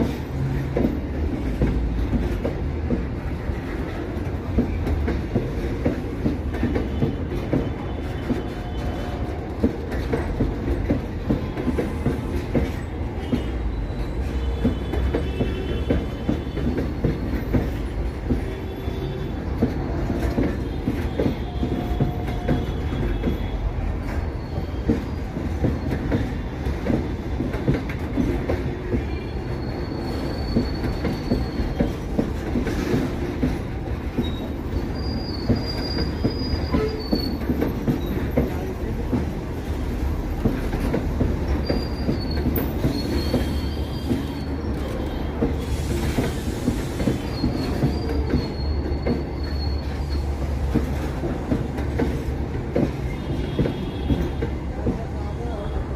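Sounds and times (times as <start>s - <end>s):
wheel clatter over rail joints: 0.0s - 55.7s
wheel squeals: 6.6s - 38.7s, 39.6s - 54.4s.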